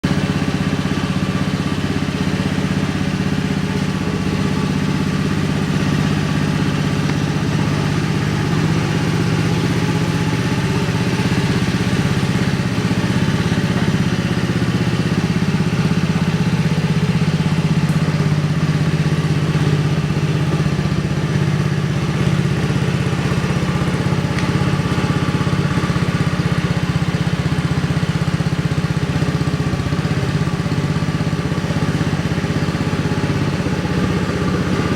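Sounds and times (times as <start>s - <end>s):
scooter engine idling: 0.0s - 34.9s.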